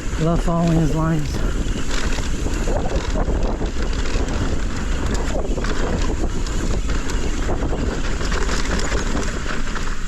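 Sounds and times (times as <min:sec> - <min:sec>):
bike tyres rolling over dirt: 0:00.0 - 0:10.0
wind rushing over microphone: 0:00.0 - 0:10.0.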